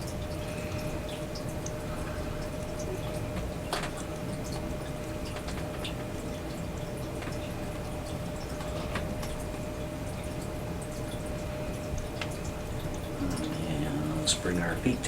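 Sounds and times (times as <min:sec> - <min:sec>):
faint constant hum: 0:00.0 - 0:15.0.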